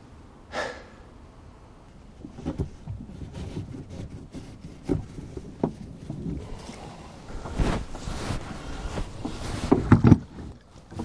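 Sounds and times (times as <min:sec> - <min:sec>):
rumbling handling in rowboat: 0:02.0 - 0:11.0.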